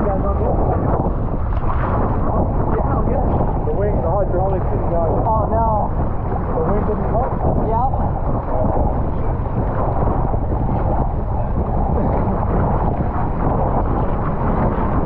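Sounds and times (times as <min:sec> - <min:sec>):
water sloshing and splashing: 0:00.0 - 0:15.0
wind rumble on microphone: 0:00.0 - 0:15.0.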